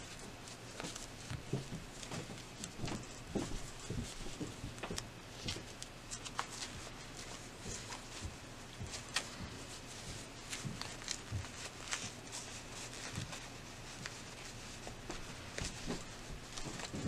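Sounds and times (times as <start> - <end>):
faint steady hum: 0.0 - 17.0
satin fabric rustling: 0.0 - 17.0.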